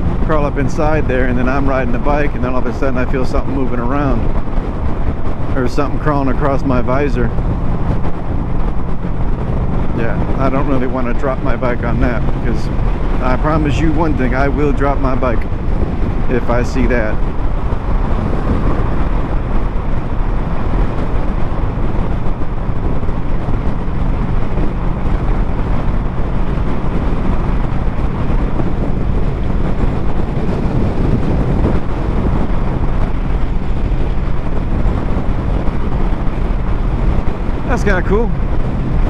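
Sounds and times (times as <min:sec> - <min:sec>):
motorcycle engine drone: 0:00.0 - 0:39.0
wind rush over microphone: 0:00.0 - 0:39.0.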